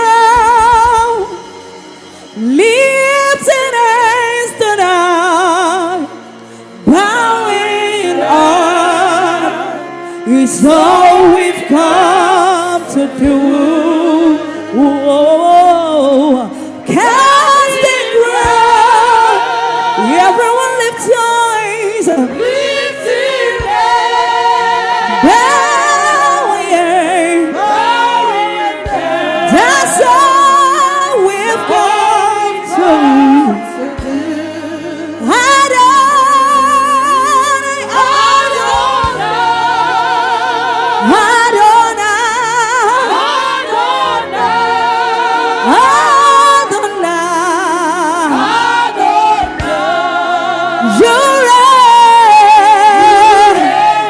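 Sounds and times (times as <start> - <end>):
backing voices singing: 0.0 - 54.0
keyboard and band accompaniment: 0.0 - 54.0
lead singer with vibrato: 0.0 - 54.0.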